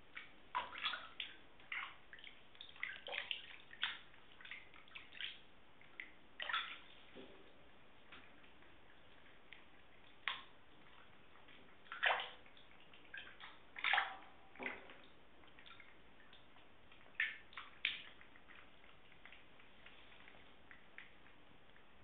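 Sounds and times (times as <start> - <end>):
paws splashing in bathwater: 0.0 - 22.0.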